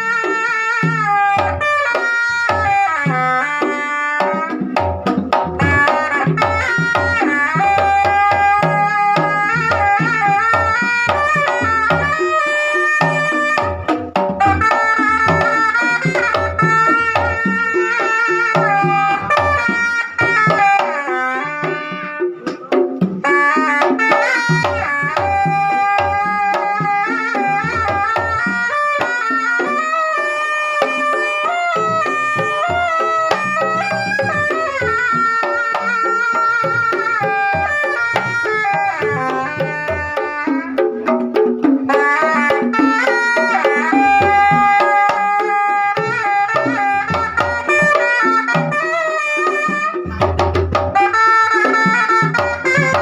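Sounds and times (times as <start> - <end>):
hand drums playing: 0.0 - 53.0
ornamented melody line: 0.0 - 53.0.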